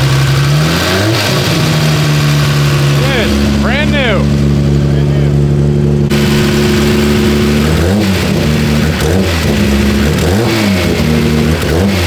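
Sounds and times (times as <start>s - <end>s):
car engine idling with throttle blips: 0.0s - 12.0s.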